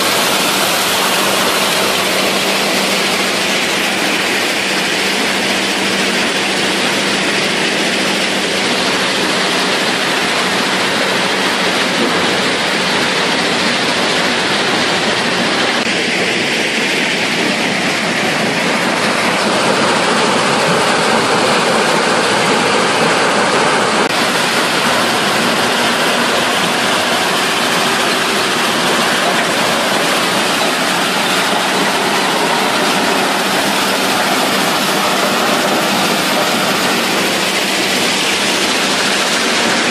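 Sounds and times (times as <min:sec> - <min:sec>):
rock crusher machinery running: 0:00.0 - 0:39.9.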